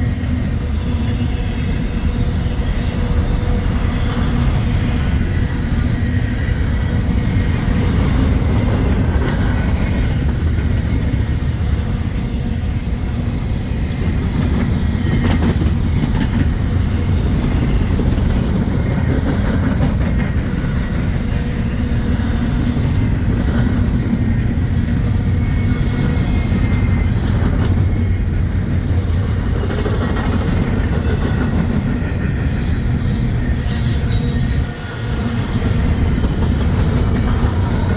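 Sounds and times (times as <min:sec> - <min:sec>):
freight train wheels rumbling: 0:00.0 - 0:37.9
train wheels squealing: 0:00.0 - 0:37.9.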